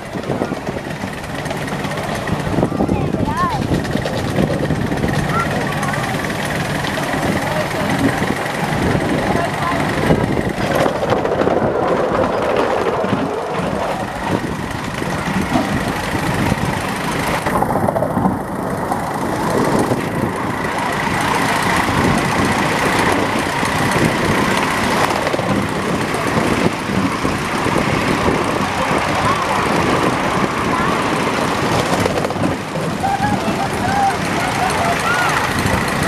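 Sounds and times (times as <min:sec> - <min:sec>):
locomotive wheels on rail: 0:00.0 - 0:36.0.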